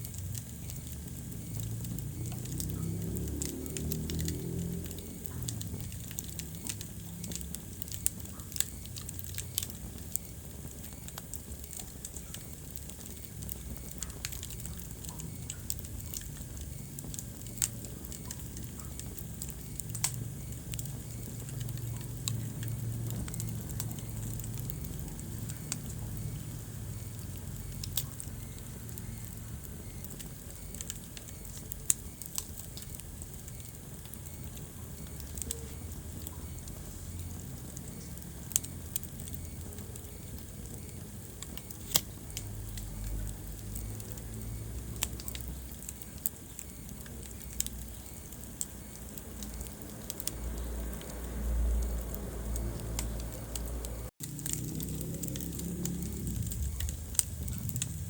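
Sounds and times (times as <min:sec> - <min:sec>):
fire flames rumbling: 0:00.0 - 0:58.0
logs crackling and popping: 0:00.0 - 0:58.0.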